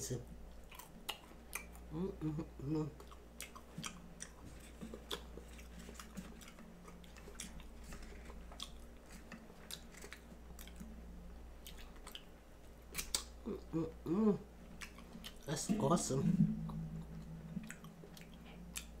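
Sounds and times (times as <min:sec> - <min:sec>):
low electrical hum: 0:00.0 - 0:19.0
person chewing food: 0:00.5 - 0:15.7, 0:16.4 - 0:19.0.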